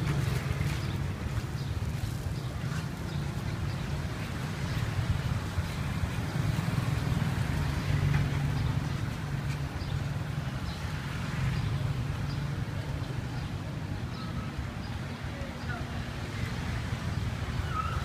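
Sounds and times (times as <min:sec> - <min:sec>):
traffic engine hum: 0:00.0 - 0:18.0.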